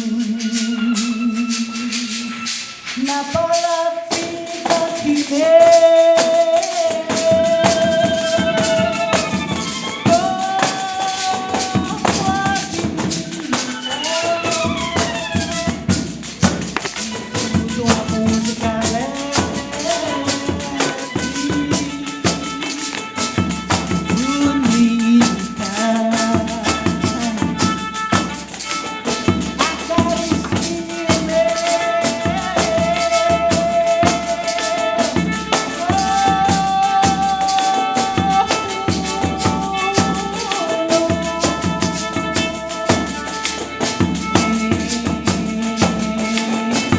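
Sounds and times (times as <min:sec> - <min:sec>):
held melody line: 0:00.0 - 0:46.9
frame drums with jingles: 0:00.4 - 0:46.9.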